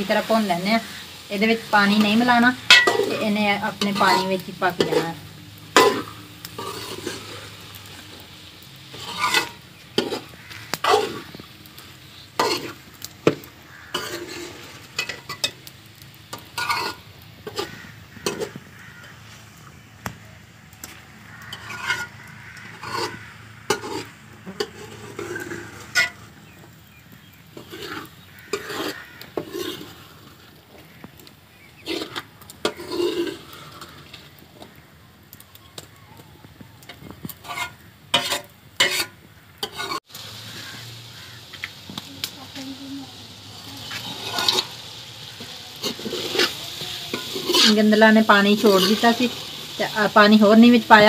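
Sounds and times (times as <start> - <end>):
metal ladle scraping metal pan: 0.0 - 15.7, 16.3 - 19.4, 21.4 - 26.4, 27.5 - 30.8, 31.8 - 34.4, 36.9 - 41.5, 43.8 - 51.0
low sizzle: 0.0 - 51.0.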